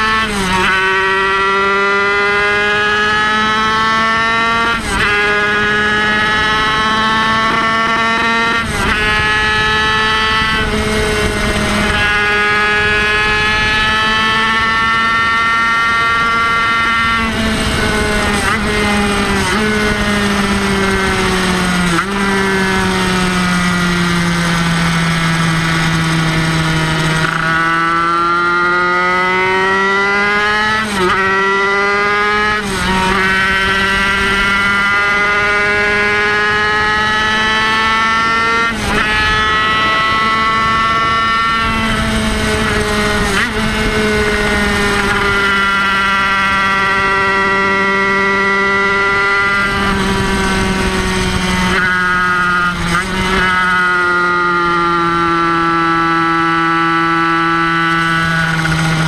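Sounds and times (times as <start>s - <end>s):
two-stroke motorcycle engine buzzing: 0.0s - 59.0s.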